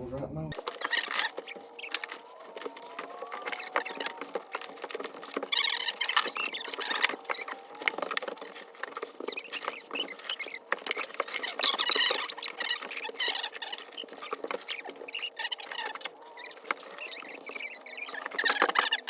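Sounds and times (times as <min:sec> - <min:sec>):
loose dirt pattering down: 0:00.5 - 0:19.0
shovels scraping: 0:00.5 - 0:19.0.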